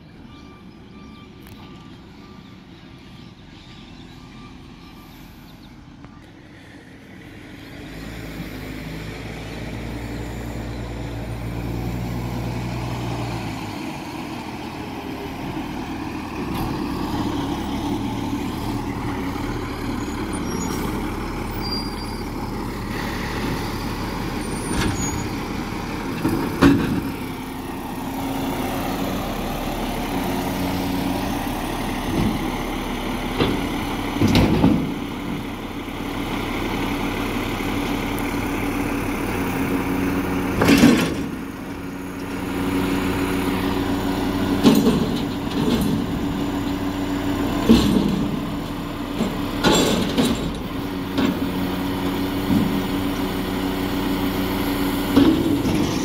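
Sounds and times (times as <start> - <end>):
garbage truck engine running: 9.4 - 56.0.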